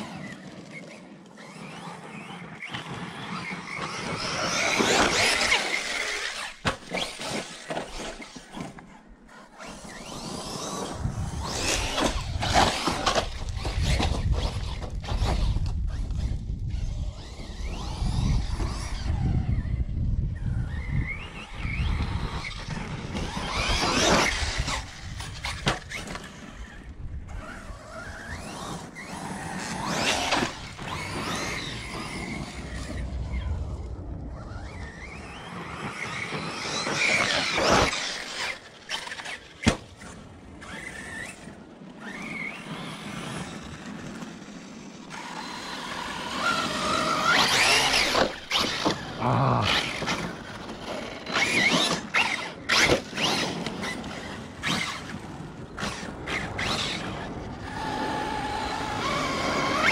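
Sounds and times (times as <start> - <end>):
electric motor whining: 0.0 - 59.9.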